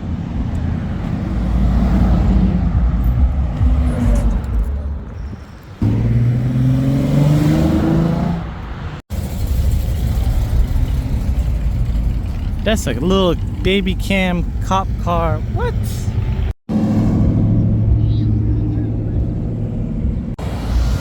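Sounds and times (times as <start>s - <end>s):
car engine revving: 1.0s - 21.0s.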